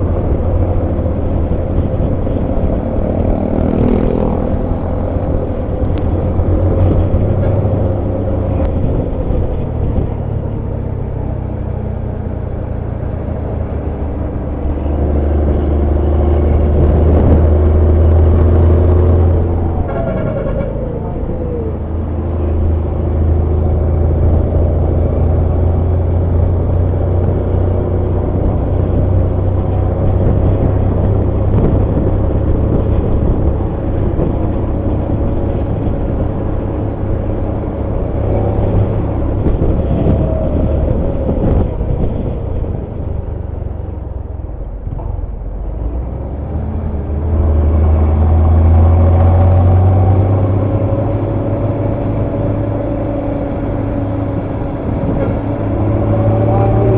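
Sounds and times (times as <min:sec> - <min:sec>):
bus diesel engine droning: 0:00.0 - 0:56.9.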